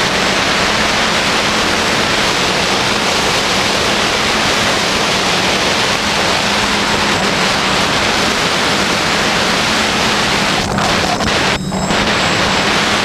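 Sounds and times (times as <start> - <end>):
faint steady hum: 0.0 - 13.0
quadcopter propellers rushing: 0.0 - 13.0.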